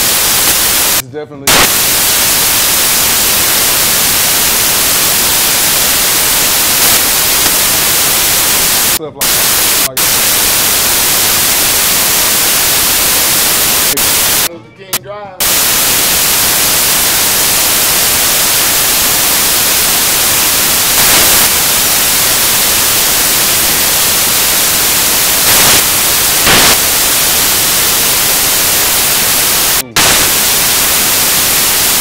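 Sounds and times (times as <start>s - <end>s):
static hiss: 0.0s - 14.5s, 15.4s - 32.0s.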